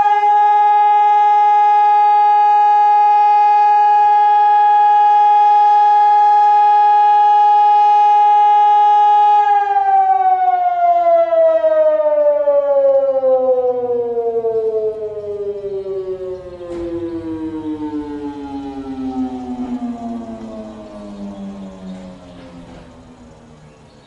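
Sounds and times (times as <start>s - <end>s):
warning siren wail winding down: 0.0s - 24.0s.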